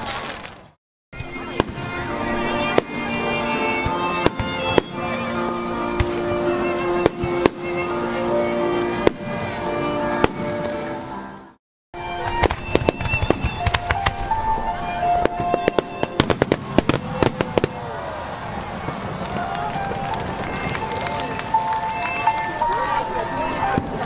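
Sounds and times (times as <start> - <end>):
fireworks bursting: 0.0 - 11.1, 12.1 - 22.4
music playing: 1.2 - 17.4, 18.8 - 24.0.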